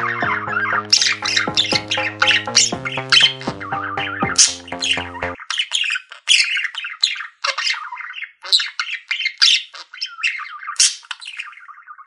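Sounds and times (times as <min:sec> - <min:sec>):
budgies chirping: 0:00.0 - 0:12.0.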